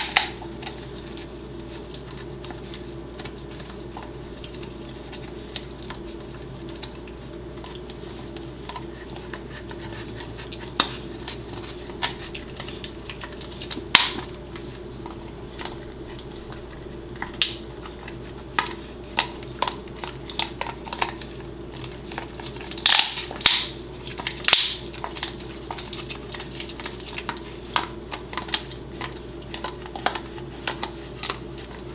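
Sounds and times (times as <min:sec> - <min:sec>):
dog chewing hard cartilage: 0:00.0 - 0:31.9
steady low hum: 0:00.0 - 0:31.9.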